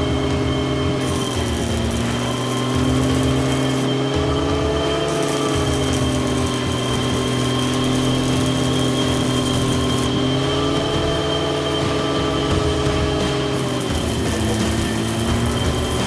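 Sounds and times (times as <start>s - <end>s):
generator welder hum: 0.0s - 16.0s
tractor engine running: 0.0s - 16.0s
welding arc crackling hiss: 0.0s - 16.0s.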